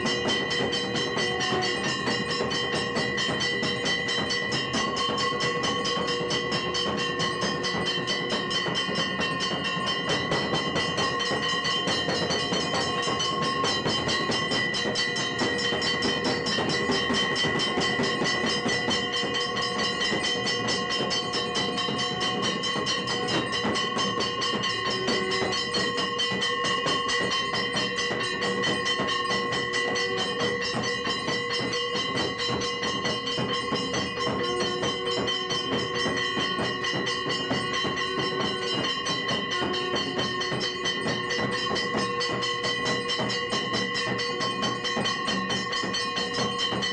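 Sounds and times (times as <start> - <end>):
cymbals clashing: 0.0 - 46.9
temple bells ringing: 0.0 - 46.9.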